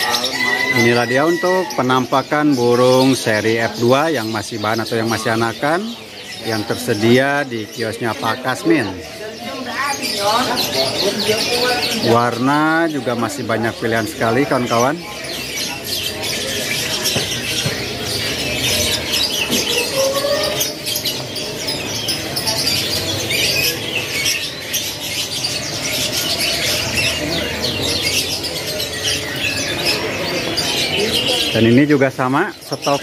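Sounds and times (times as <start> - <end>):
canaries chirping and twittering: 0.0 - 33.0.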